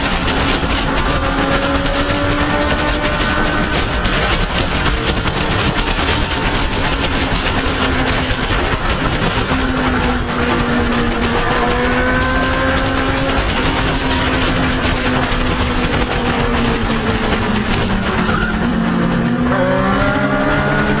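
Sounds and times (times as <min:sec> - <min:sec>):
motorcycle engine cruising: 0:00.0 - 0:21.0
wind rushing over microphone: 0:00.0 - 0:21.0.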